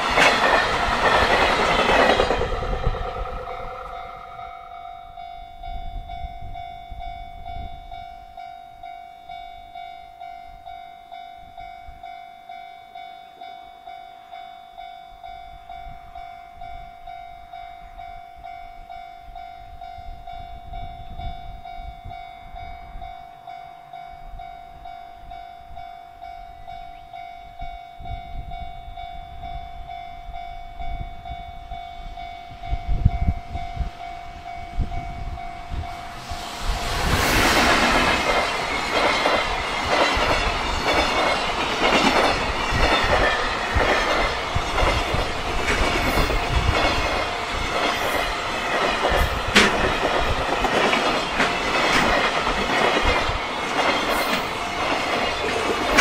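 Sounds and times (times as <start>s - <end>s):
freight train rumbling: 0.0s - 12.6s, 13.2s - 56.0s.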